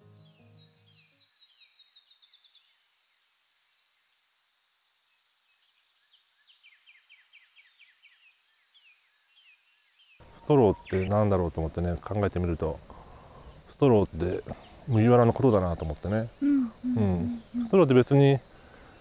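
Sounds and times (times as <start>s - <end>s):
insect drone: 0.9s - 19.0s.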